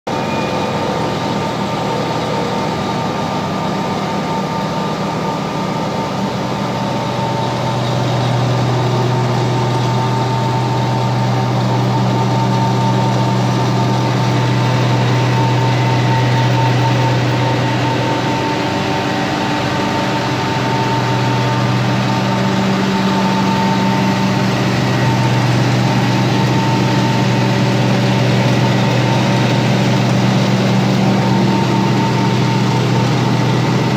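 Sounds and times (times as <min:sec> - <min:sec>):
grinding mill and fan humming: 0:00.1 - 0:33.9.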